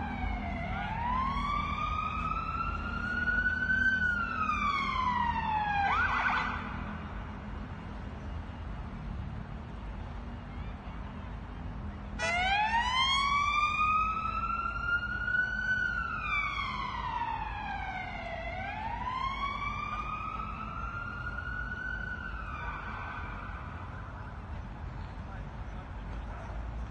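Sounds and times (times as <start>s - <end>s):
emergency vehicle siren wailing: 0.0s - 25.0s
low rumble of road traffic: 0.0s - 26.9s.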